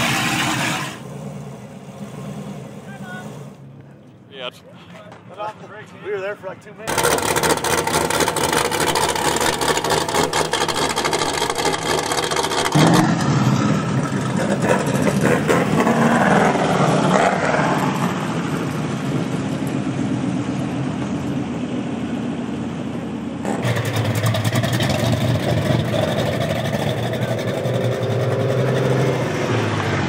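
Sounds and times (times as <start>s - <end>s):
race vehicle engines revving: 0.0s - 30.0s.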